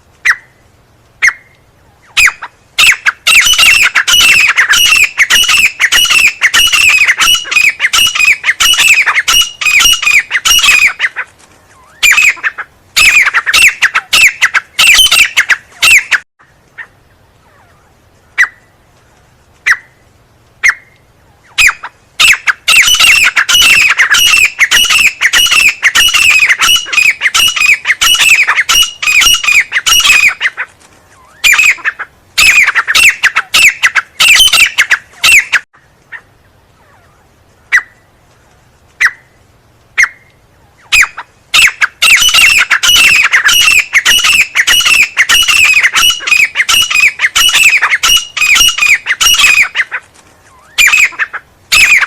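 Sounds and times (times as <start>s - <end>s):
francolin calling: 0.2s - 18.7s, 20.6s - 38.1s, 40.0s - 52.0s.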